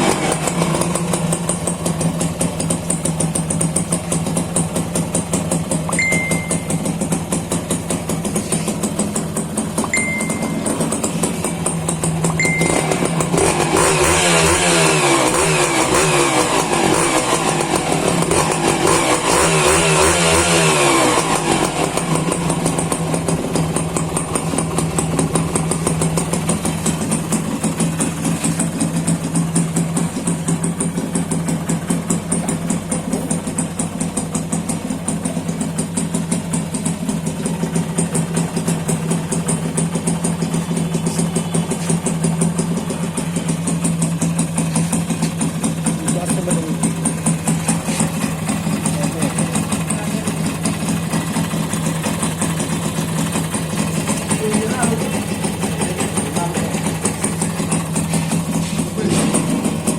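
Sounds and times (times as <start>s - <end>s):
motorcycle engine revving and idling: 0.0s - 59.9s.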